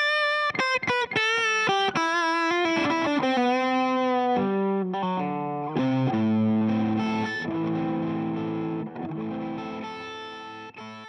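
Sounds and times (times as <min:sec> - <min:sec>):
overdriven electric guitar: 0:00.0 - 0:11.0.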